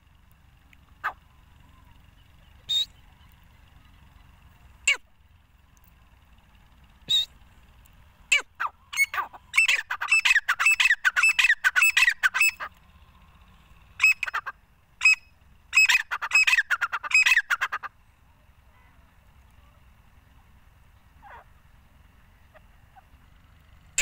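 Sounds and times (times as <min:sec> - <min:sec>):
francolin calling: 0:00.1 - 0:20.2, 0:20.9 - 0:24.0.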